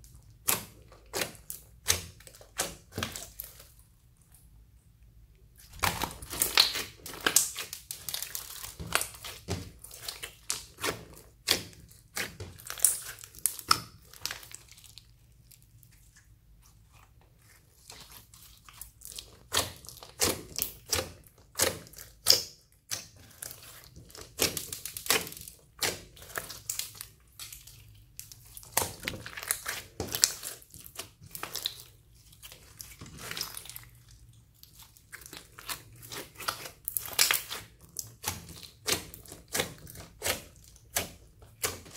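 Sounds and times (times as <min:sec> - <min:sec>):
slime squelching: 0:00.0 - 0:41.9.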